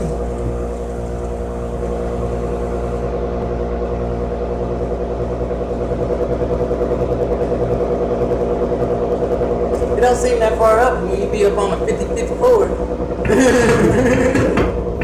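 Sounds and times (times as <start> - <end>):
tram hum and rumble: 0.0 - 15.0.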